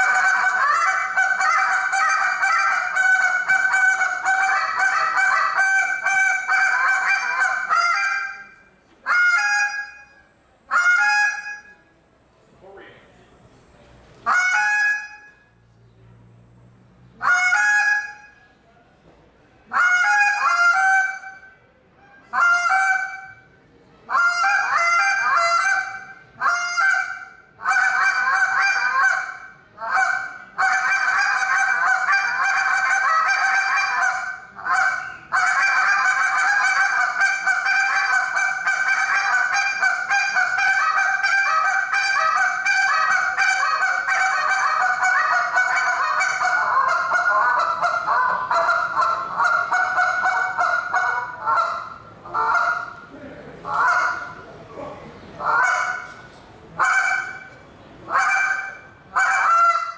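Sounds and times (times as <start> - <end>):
goose call honking: 0.0 - 10.1, 17.2 - 18.4, 19.7 - 21.5, 22.1 - 23.4, 24.1 - 54.5, 55.4 - 56.2, 56.8 - 59.9.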